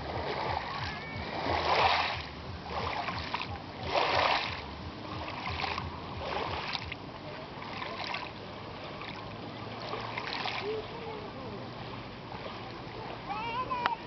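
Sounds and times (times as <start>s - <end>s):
sea water splashing: 0.0s - 14.0s.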